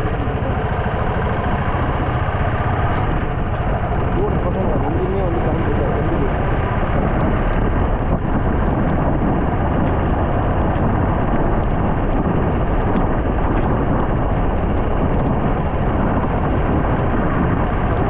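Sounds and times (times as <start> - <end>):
vehicle on wet road: 0.0 - 18.0.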